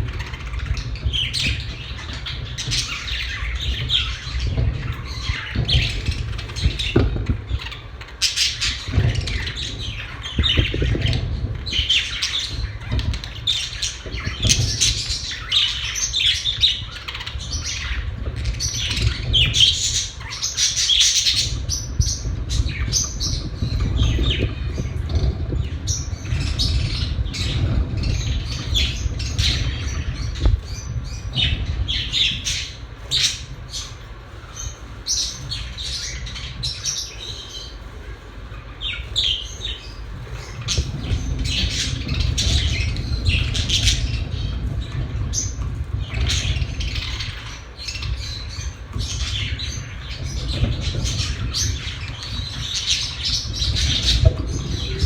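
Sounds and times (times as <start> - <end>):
budgerigars chirping: 0.0 - 55.0
steady low rumble: 0.0 - 55.0.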